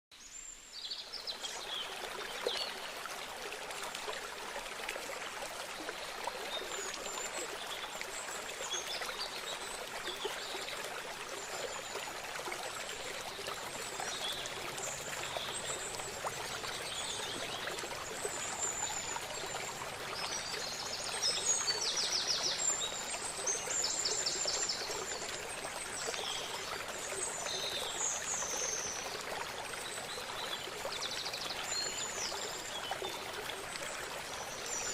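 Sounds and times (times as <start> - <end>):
river water flowing: 0.2 - 34.9.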